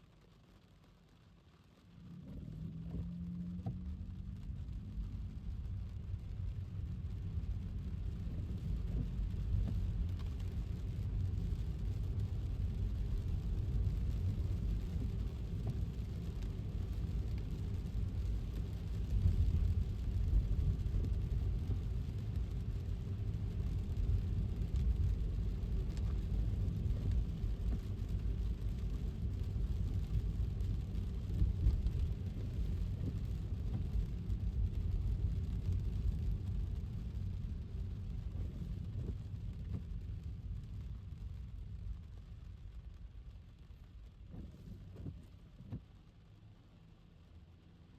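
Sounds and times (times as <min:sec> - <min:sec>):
faint rain hiss: 0:00.0 - 0:47.9
tyres rumbling on wet pavement: 0:02.0 - 0:46.0.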